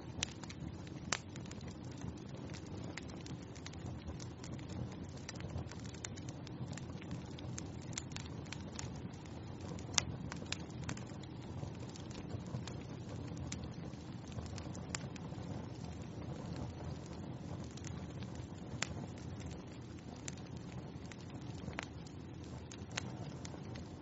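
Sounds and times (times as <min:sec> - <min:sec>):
wood fire burning: 0:00.0 - 0:24.0.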